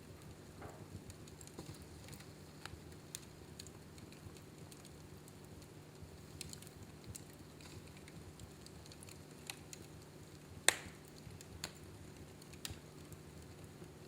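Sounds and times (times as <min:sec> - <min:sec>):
fire crackling and popping: 0:00.0 - 0:14.0
low steady hum: 0:00.0 - 0:14.0.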